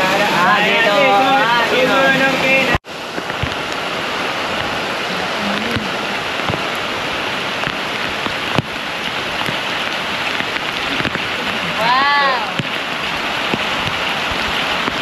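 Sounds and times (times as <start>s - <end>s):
steady rain hiss: 0.0s - 15.0s
sharp water drips: 2.8s - 15.0s.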